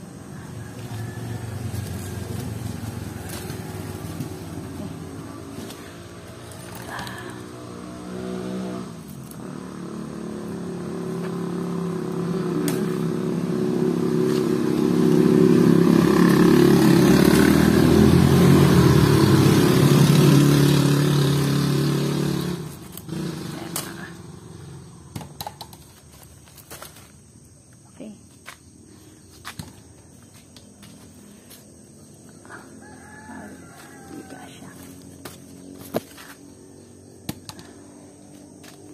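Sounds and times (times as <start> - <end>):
motor vehicle engine running: 0.0 - 26.9, 29.4 - 38.9.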